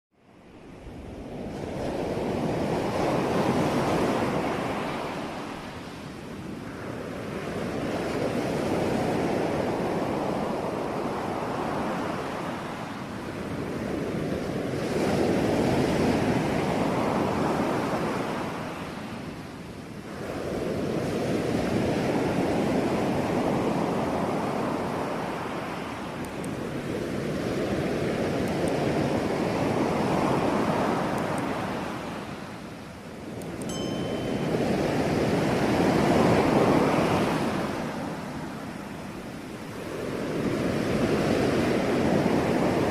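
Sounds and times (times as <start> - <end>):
sea waves breaking on shore: 0.6 - 42.9.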